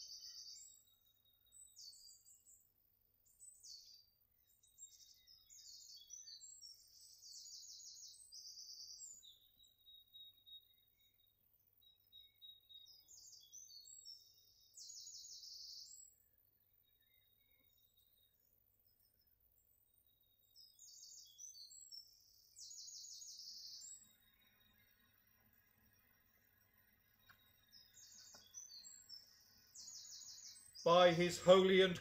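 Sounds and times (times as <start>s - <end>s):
faint songbirds trilling: 0.0s - 32.0s.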